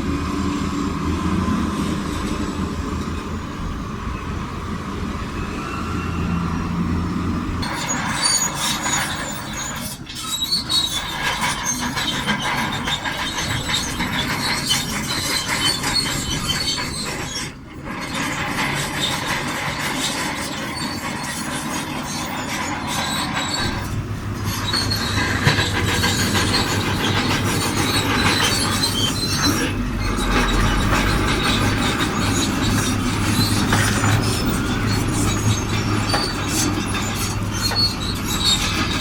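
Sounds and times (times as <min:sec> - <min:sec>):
bulldozer diesel engine running: 0:00.0 - 0:39.0
crawler tracks squealing and clattering: 0:05.3 - 0:39.0.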